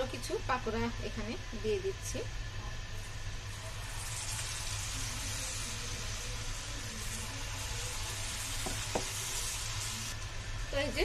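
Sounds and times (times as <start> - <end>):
oil sizzling in frying pan: 0.0 - 11.0
steady low hum: 0.0 - 11.0.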